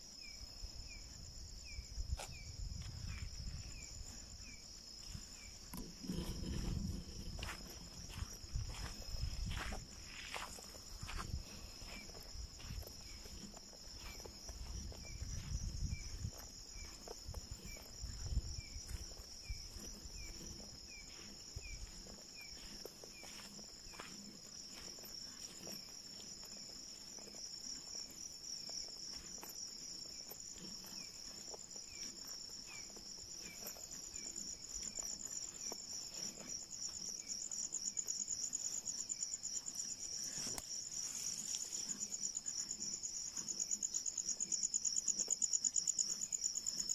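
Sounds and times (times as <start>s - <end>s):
crickets trilling: 0.0s - 46.9s
insect chirping: 0.0s - 46.9s.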